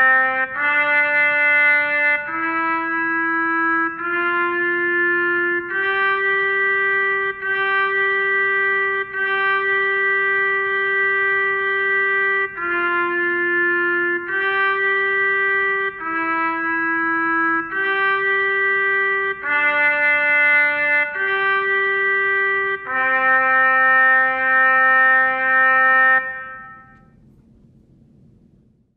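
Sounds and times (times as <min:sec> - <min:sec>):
trumpet playing slow melody: 0:00.0 - 0:27.2.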